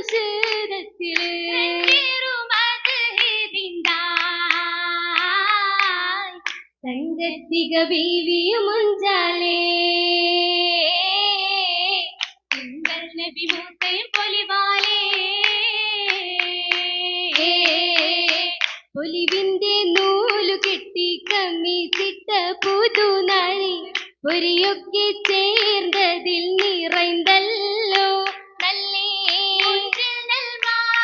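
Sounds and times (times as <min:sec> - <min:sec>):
rhythmic hand clapping: 0:00.0 - 0:06.8, 0:12.2 - 0:31.0.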